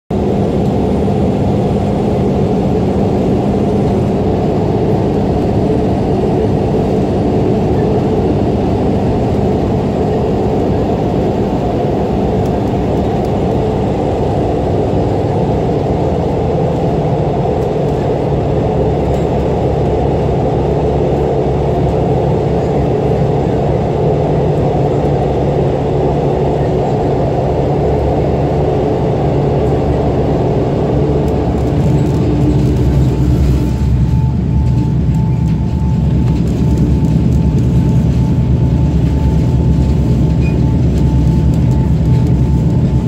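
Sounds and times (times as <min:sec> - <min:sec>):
diesel railcar engine drone: 0:00.1 - 0:43.0
train wheels on rails: 0:00.1 - 0:43.0.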